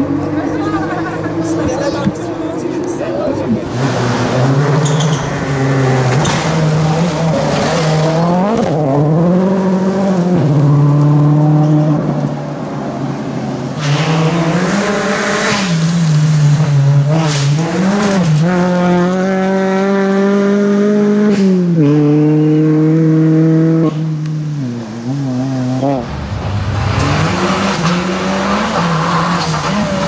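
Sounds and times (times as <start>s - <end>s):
rally car engine at high revs: 0.0s - 30.0s.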